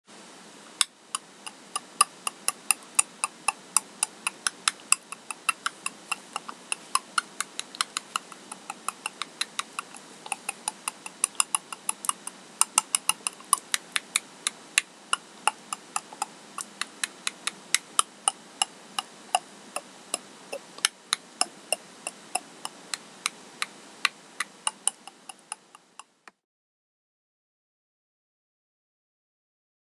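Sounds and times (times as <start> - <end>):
steady hiss: 0.1 - 26.4
puppet clicking: 0.8 - 26.4.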